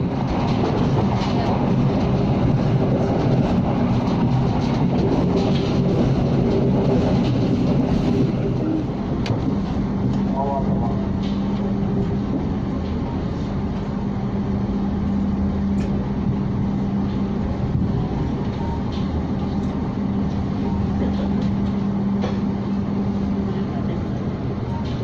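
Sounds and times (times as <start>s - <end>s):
constant hum: 0.0s - 25.0s
train wheels rumbling on track: 0.0s - 25.0s.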